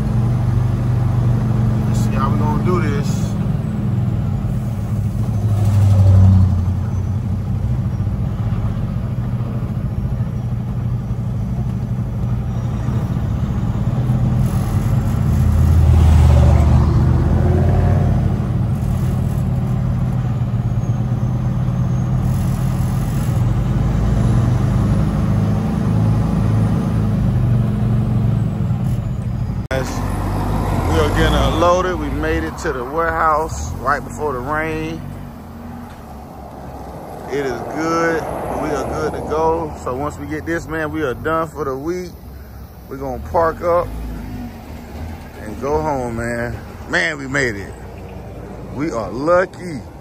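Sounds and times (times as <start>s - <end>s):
truck diesel engine rumble: 0.0s - 50.0s.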